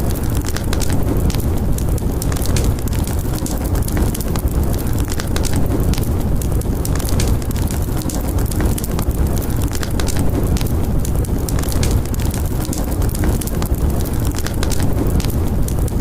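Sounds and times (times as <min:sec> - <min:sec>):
low rumble of storm wind: 0:00.0 - 0:16.0
wood fire crackling and popping: 0:00.0 - 0:16.0.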